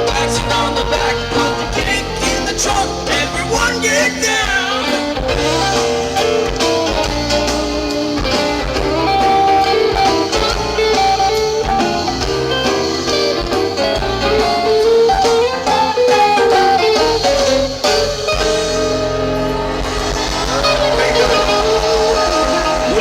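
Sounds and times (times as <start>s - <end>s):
bass: 0.0s - 23.0s
drums: 0.0s - 23.0s
electric guitar lead: 0.0s - 23.0s.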